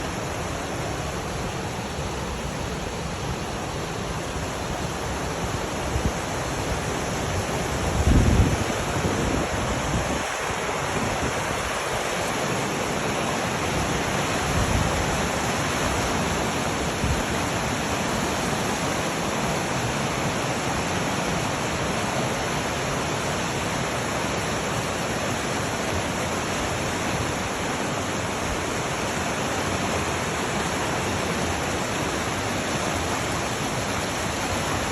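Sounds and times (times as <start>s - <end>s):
flowing water rushing: 0.0s - 34.9s.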